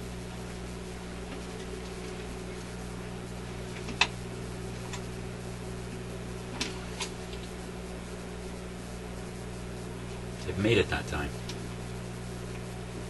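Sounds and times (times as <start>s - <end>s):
record changer mechanism cycling: 0.0s - 13.0s
record player low hum: 0.0s - 13.0s.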